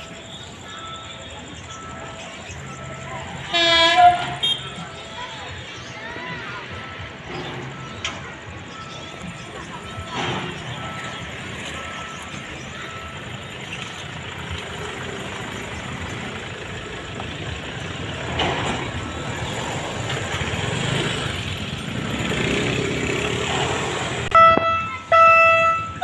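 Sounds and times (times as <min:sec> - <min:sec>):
railcar engine running: 0:00.0 - 0:26.0.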